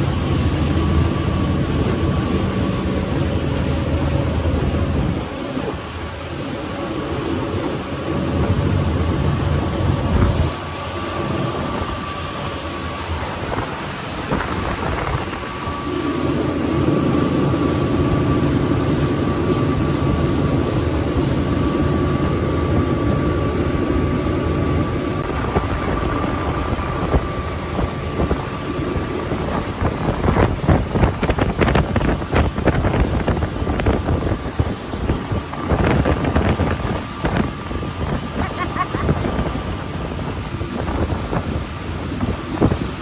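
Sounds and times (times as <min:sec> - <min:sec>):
hull rushing through water: 0:00.0 - 0:43.0
outboard motors running: 0:00.0 - 0:43.0
wind buffeting microphone: 0:00.0 - 0:43.0.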